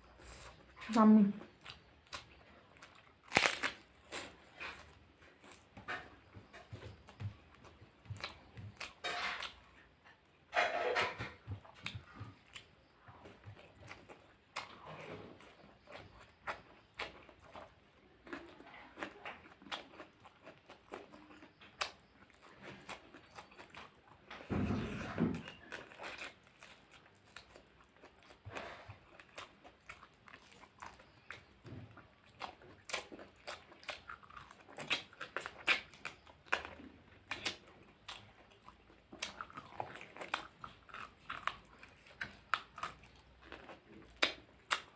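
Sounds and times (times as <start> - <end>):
person chewing and lip-smacking: 1.5 - 5.7, 6.3 - 9.8, 15.4 - 24.2, 25.3 - 44.9.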